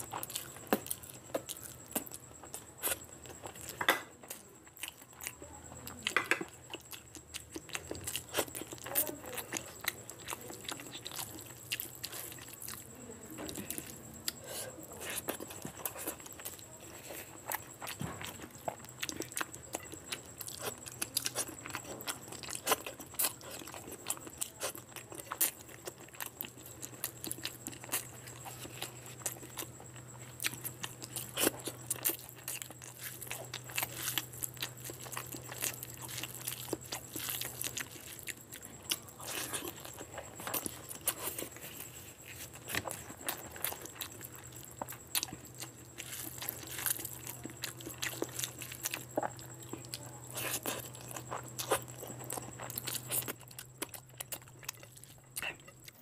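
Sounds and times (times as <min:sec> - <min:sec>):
chewing with mouth full: 0:00.0 - 0:56.0.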